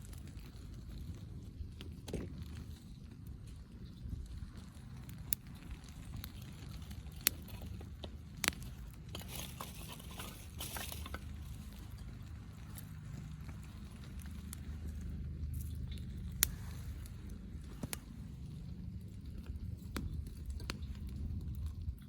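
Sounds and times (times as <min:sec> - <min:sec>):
hissing crackle: 0:00.0 - 0:21.8
campfire crackling and popping: 0:00.0 - 0:22.0
low rumble of fire: 0:00.0 - 0:22.0.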